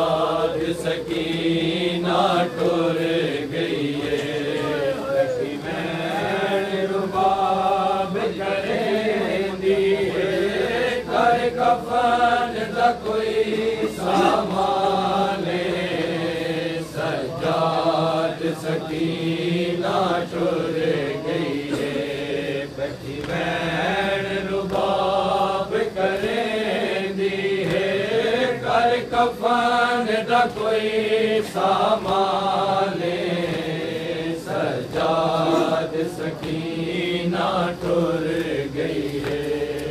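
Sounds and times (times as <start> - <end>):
men chanting a lament: 0.0 - 39.9.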